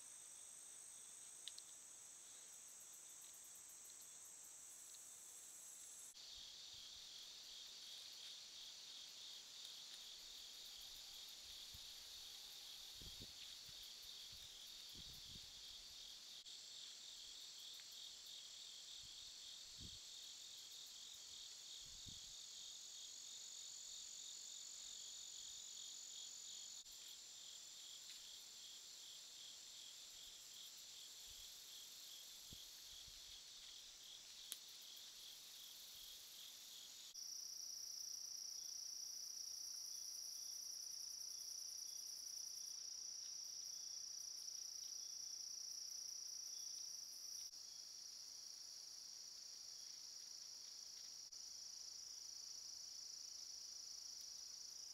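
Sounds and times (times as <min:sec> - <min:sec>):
crickets trilling: 0:00.0 - 0:54.9
high insect buzz: 0:00.0 - 0:54.9.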